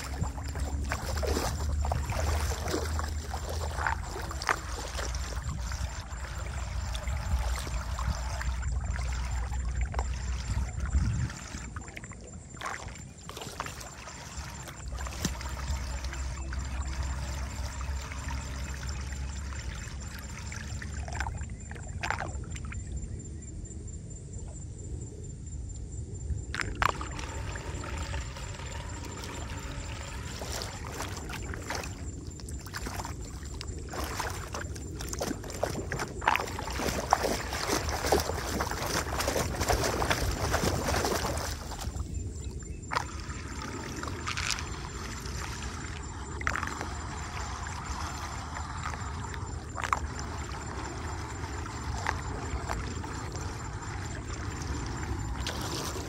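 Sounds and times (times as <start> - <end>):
water draining down a street drain: 0.0 - 22.5, 26.6 - 56.0
water splashing and sloshing: 0.0 - 23.4, 26.2 - 56.0.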